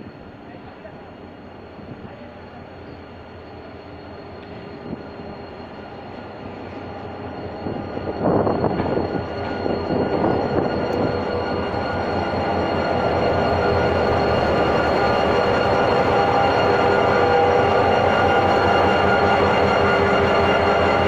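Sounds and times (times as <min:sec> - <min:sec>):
locomotive passing: 0:00.0 - 0:21.0.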